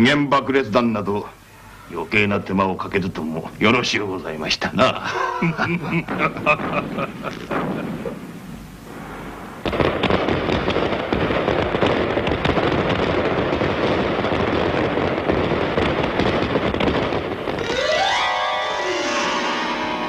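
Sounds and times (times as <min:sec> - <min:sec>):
fireworks crackling and popping: 0:01.9 - 0:20.0.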